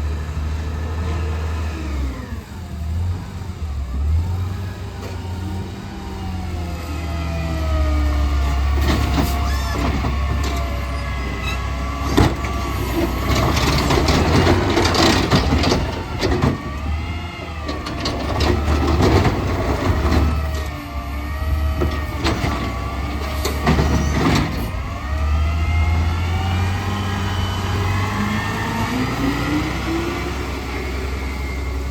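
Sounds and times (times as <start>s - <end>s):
garbage truck engine revving: 0.0s - 31.9s.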